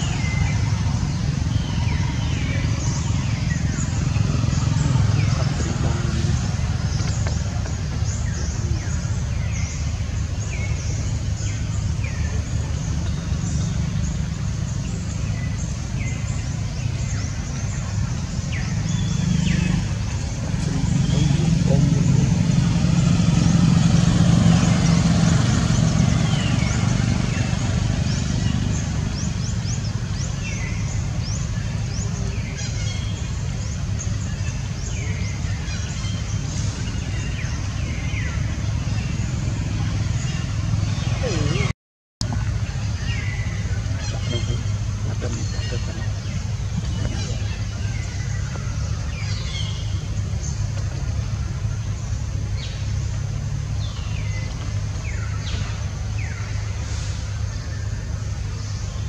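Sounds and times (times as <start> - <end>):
birds chirping and whistling: 0.0 - 41.7, 42.4 - 59.0.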